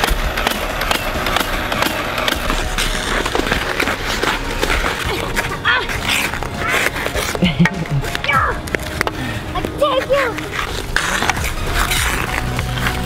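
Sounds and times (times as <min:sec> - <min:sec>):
ice skates scraping ice: 0:00.0 - 0:13.0
scuffs and clicks: 0:00.0 - 0:13.0.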